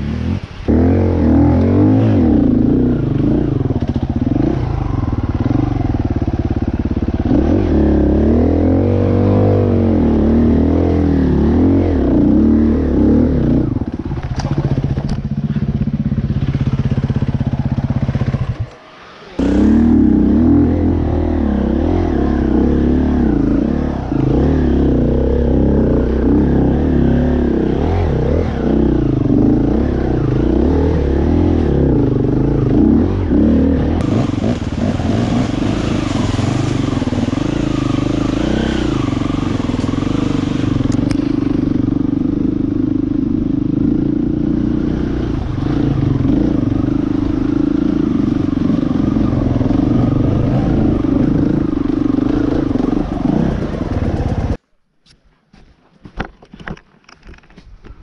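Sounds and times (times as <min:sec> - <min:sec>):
dirt bike engine revving: 0:00.0 - 0:54.6.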